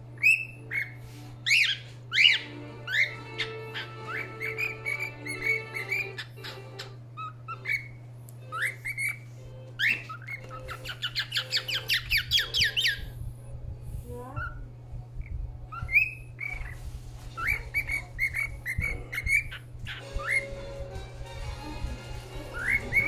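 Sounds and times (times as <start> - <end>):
cockatiel whistling: 0.2 - 13.2, 15.2 - 20.8, 22.4 - 23.0.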